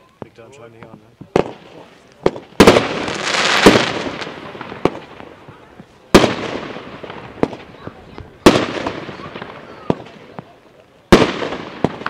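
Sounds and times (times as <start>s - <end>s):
firework crackling: 0.0s - 12.0s
firework bangs: 0.1s - 12.0s.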